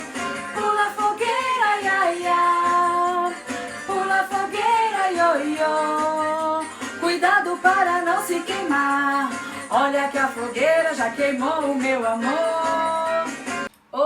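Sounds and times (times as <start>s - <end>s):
instrumental backing music: 0.0s - 13.7s
person singing: 0.0s - 14.0s.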